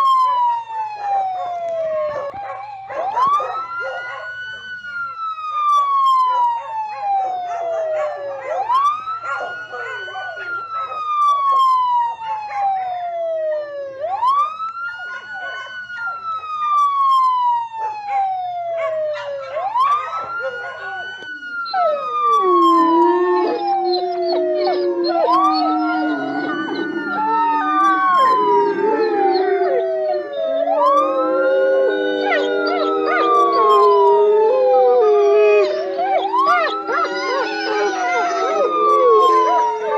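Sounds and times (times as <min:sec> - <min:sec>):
dogs howling: 0:00.0 - 0:05.2, 0:06.2 - 0:12.9, 0:17.4 - 0:39.9
emergency siren wailing: 0:00.0 - 0:39.9.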